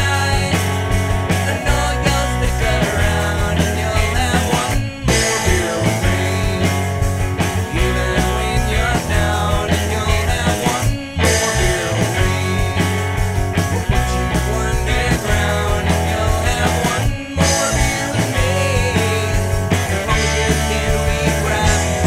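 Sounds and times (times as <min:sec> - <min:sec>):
rock song with steady bass: 0:00.0 - 0:22.0.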